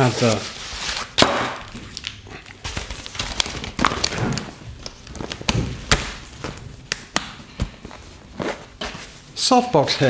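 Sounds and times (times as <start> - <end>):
cloth rustling: 1.9 - 10.0.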